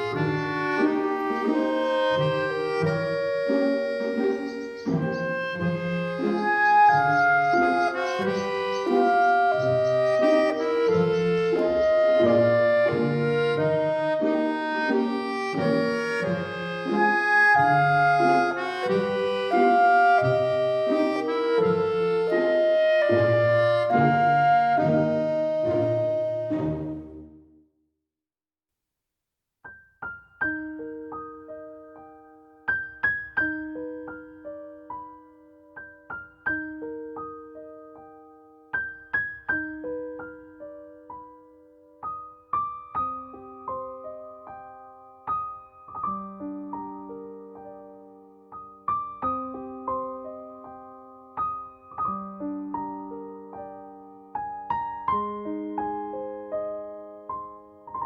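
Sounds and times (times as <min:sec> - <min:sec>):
gentle piano music: 0:00.0 - 0:27.5, 0:29.6 - 0:58.0.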